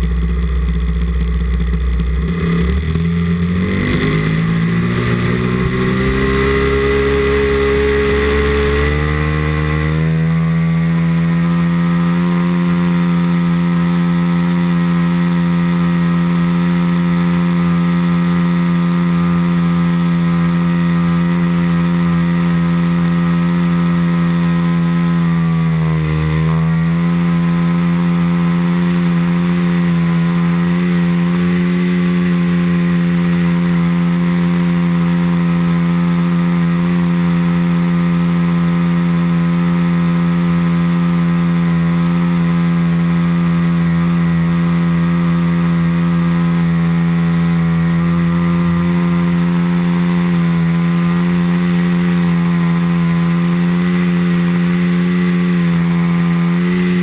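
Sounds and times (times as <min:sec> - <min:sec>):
model airplane engine running: 0:00.0 - 0:57.0.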